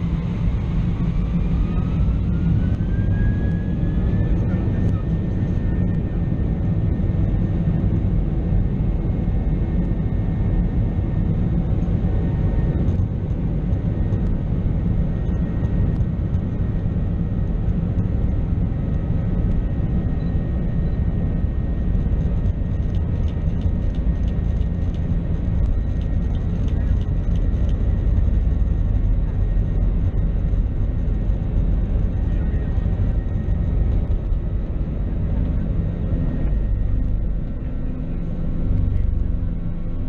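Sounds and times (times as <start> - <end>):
faint steady whine: 0.0 - 40.0
jet engines and airflow rumble: 0.0 - 40.0.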